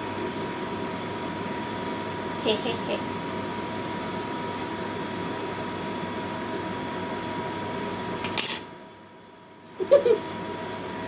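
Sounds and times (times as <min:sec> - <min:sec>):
kitchen room hiss and hum: 0:00.0 - 0:11.0.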